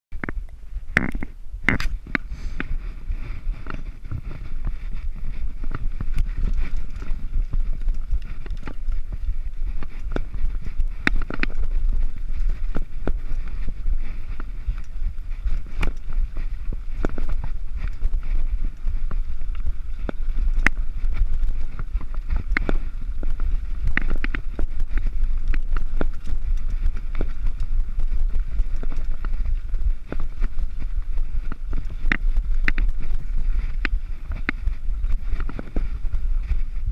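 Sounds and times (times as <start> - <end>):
bike clicking and rattling: 0.1 - 36.9
wind rumble on microphone: 0.1 - 36.9
bike tyres on gravel: 0.2 - 36.9.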